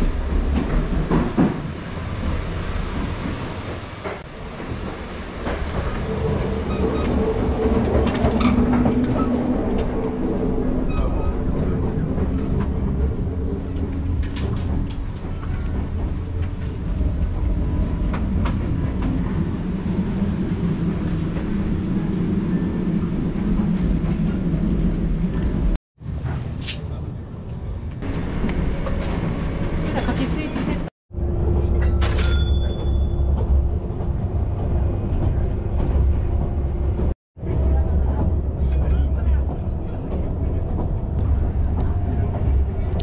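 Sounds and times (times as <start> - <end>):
electric train rumbling: 0.0 - 43.0.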